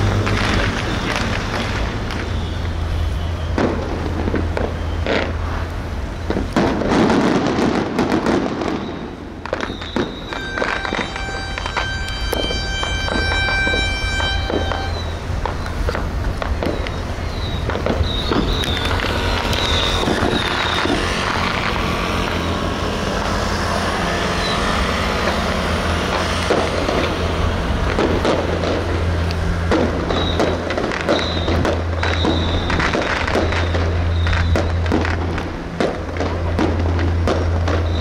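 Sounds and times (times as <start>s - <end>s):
dense noisy din: 0.0s - 38.0s
firecrackers popping: 0.0s - 38.0s.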